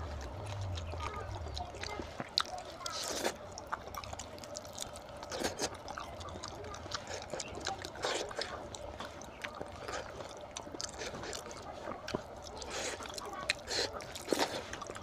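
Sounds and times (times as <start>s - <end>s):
chewing smacks: 0.0s - 15.0s
fingers squishing food: 0.0s - 15.0s.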